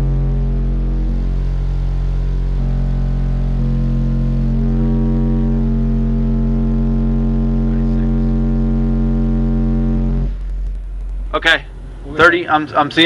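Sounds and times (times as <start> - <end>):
subwoofer deep test tone: 0.0 - 13.0.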